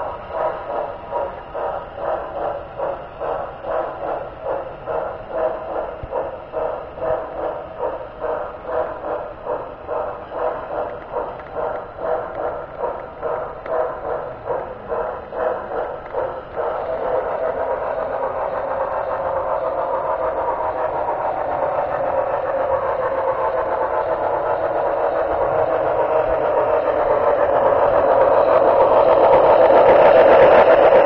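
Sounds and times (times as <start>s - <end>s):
model train running on track: 0.0s - 31.0s.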